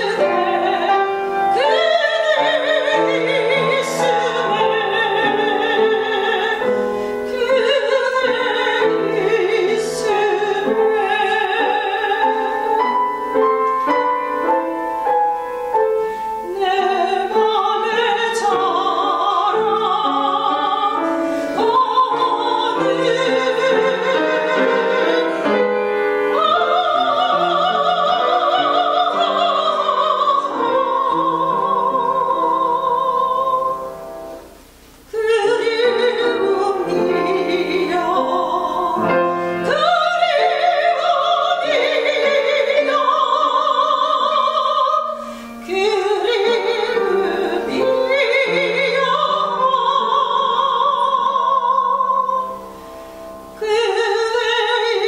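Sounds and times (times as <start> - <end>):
woman singing with vibrato: 0.0 - 13.4, 15.6 - 55.0
piano: 0.0 - 55.0.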